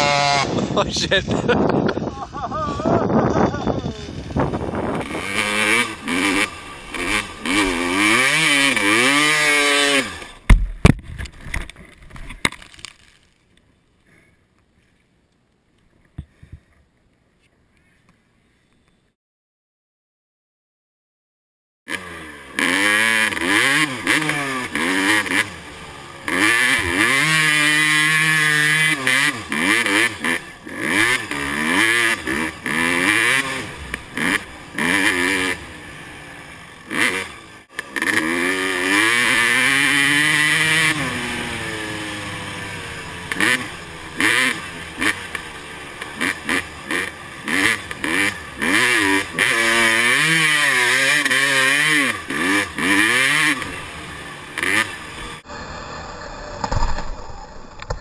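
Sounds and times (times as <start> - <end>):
motocross bike engine revving: 0.0 - 10.9, 21.9 - 58.0.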